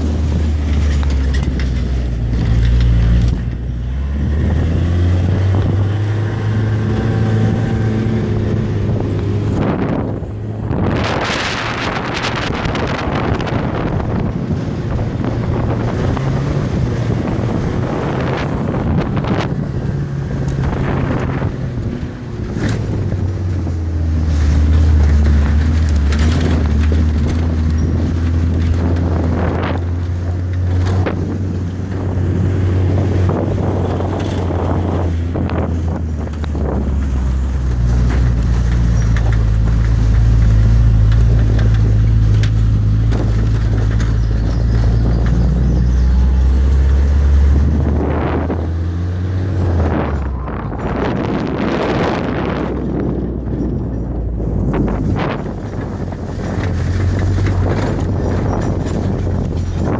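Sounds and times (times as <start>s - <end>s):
road noise: 0.0s - 59.9s
vehicle engine hum: 0.0s - 59.9s
wind buffeting microphone: 0.0s - 59.9s.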